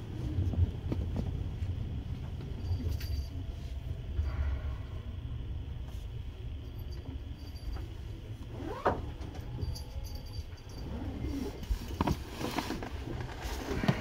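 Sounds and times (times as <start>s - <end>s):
train equipment rumble and hum: 0.0s - 14.0s.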